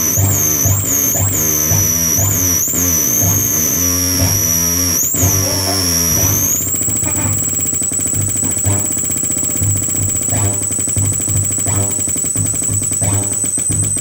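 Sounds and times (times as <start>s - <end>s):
gritty bending tones: 0.0s - 14.0s
piercing high whistling tone: 0.0s - 14.0s
pulsing bass tone: 0.0s - 14.0s.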